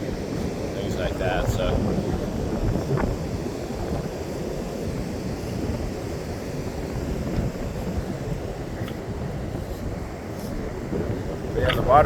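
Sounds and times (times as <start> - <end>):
ocean surf on a beach: 0.0 - 12.0
wind buffeting microphone: 0.0 - 12.0.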